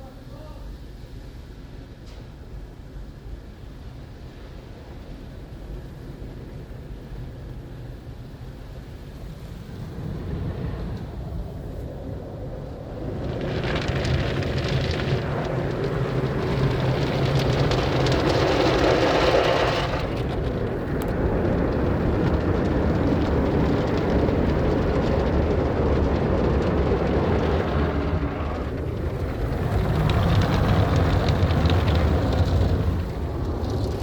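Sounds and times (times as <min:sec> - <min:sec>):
car wash machinery rushing: 0:03.4 - 0:34.0.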